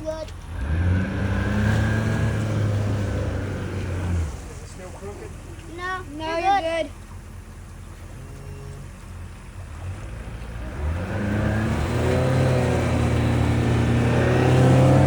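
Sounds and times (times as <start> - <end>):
engine speeding up: 0.4 - 5.3, 7.9 - 15.0.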